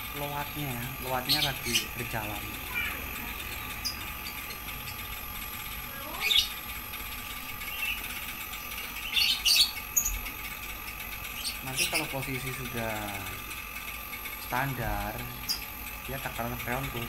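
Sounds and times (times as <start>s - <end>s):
air conditioner compressor hum: 0.0s - 17.0s
high electronic whine: 0.0s - 17.0s.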